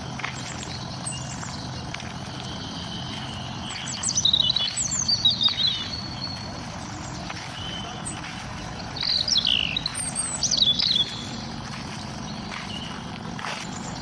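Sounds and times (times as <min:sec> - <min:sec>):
birds chirping and trilling: 0:00.0 - 0:14.0
low background rumble: 0:00.0 - 0:14.0.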